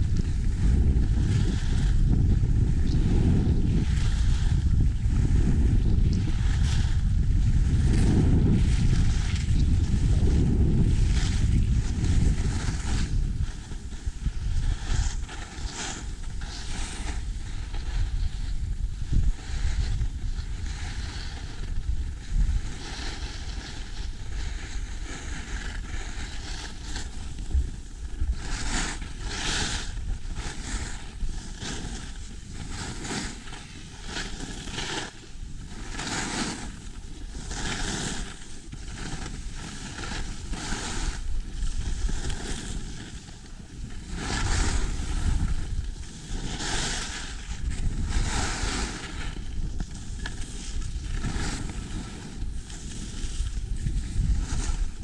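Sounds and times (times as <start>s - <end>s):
ski edges hissing on snow: 0.0s - 55.0s
wind rumbling on microphone: 0.0s - 55.0s.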